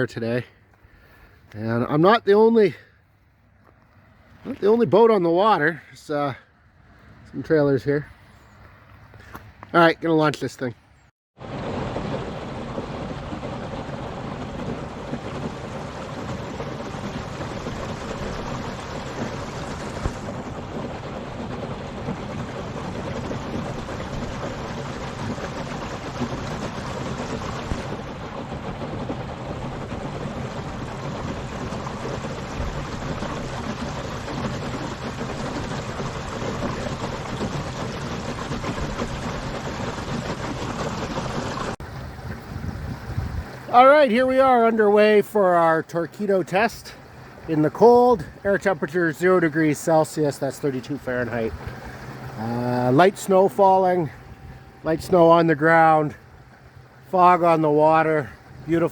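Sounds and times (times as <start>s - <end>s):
water rushing along boat hull: 0.0s - 58.9s.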